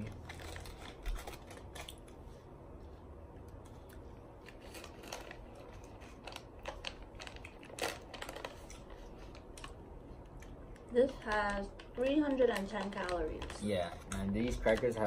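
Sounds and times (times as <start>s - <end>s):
plastic pouches crinkling: 0.0s - 2.2s, 4.4s - 15.0s.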